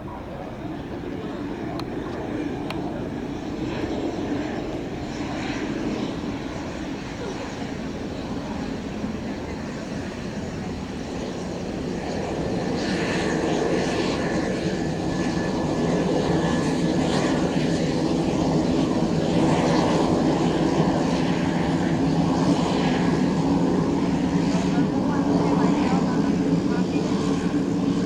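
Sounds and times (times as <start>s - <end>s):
propeller hum: 0.0s - 28.0s.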